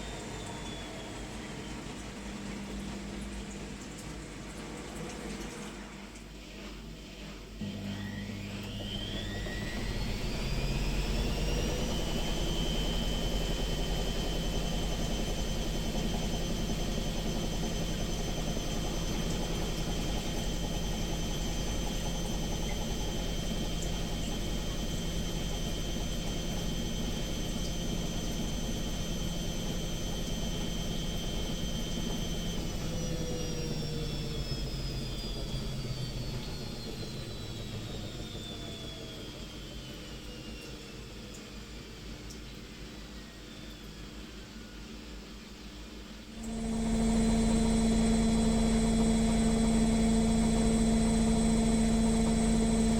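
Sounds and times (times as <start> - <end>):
washing machine spinning: 0.0 - 45.2, 45.8 - 52.9.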